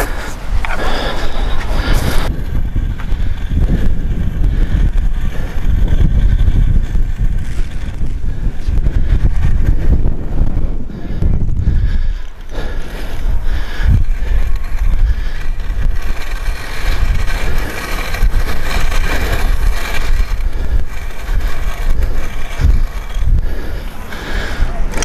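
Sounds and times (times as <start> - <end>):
drag scraping across dirt: 0.0 - 25.0
wind buffeting microphone: 0.0 - 25.0.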